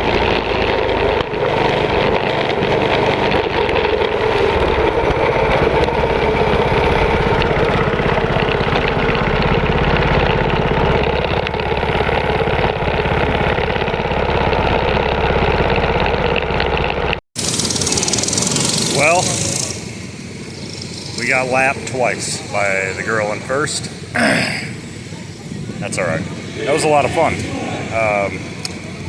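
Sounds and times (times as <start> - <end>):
mini bike engine running: 0.0 - 29.0.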